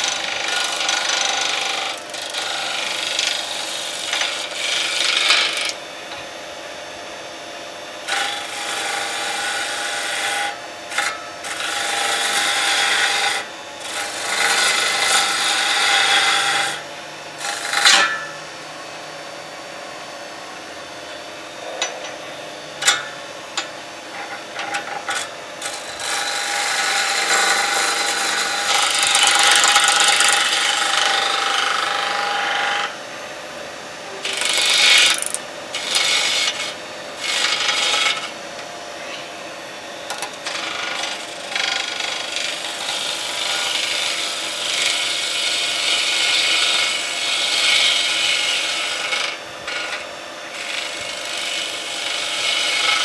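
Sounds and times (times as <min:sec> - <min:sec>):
lathe humming: 0:00.0 - 0:53.0
lathe tool scraping wood: 0:00.0 - 0:53.0.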